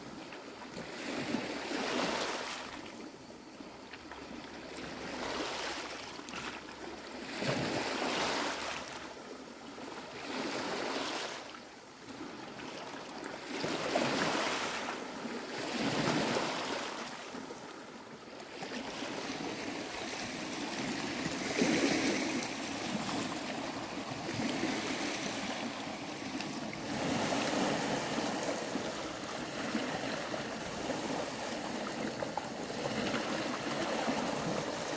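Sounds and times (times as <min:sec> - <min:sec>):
waves lapping on rocky shore: 0:04.6 - 0:34.9.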